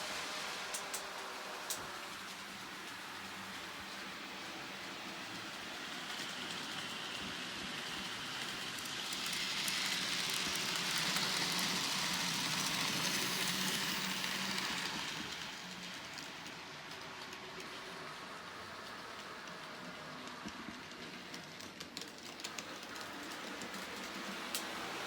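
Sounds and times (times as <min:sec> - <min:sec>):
model train wheels on rail: 0:00.0 - 0:25.0.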